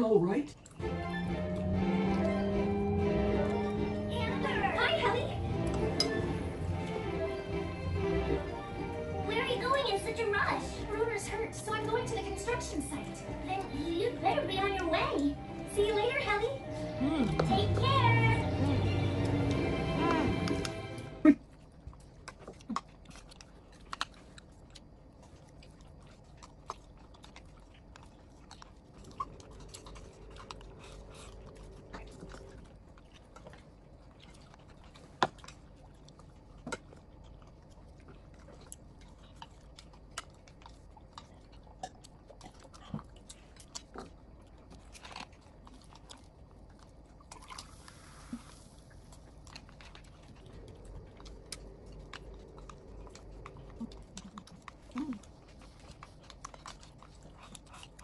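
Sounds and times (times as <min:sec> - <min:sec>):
chewing food: 0:00.0 - 0:58.0.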